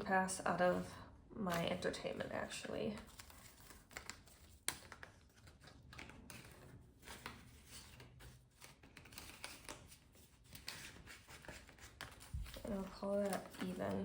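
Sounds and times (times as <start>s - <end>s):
banknotes rustling and shuffled: 0.6s - 14.0s.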